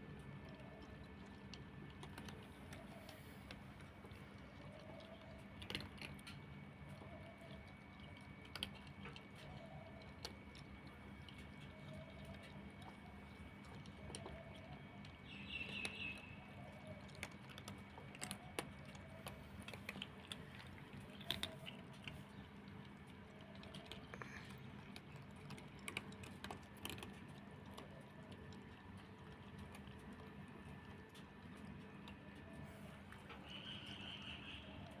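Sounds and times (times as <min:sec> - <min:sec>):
cats crunching dry kibble: 0:00.0 - 0:35.0.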